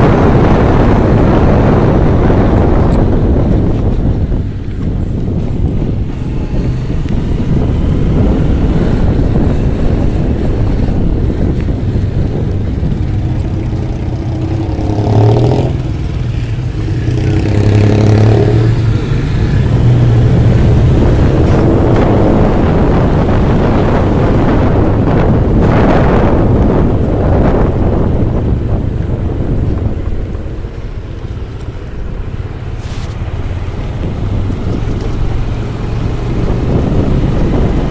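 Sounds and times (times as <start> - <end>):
motorcycle engine: 0.0 - 37.9
road rumble: 0.0 - 37.9
wind buffeting microphone: 0.0 - 37.9.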